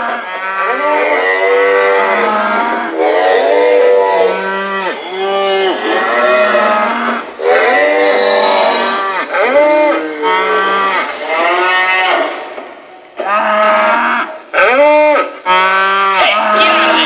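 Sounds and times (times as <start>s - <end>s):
recorded cattle mooing: 0.0s - 12.6s, 13.2s - 17.0s.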